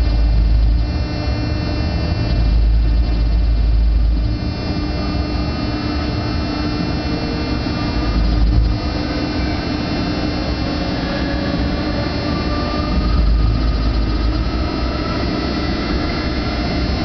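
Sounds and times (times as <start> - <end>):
electrical hum: 0.0 - 17.0
low running rumble: 0.0 - 17.0
whining electric motor tones: 0.0 - 17.0.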